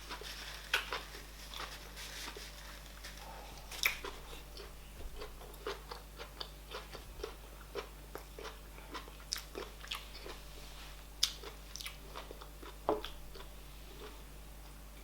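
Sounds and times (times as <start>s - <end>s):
wet chewing: 0.1s - 2.5s, 3.2s - 10.4s, 11.2s - 14.2s.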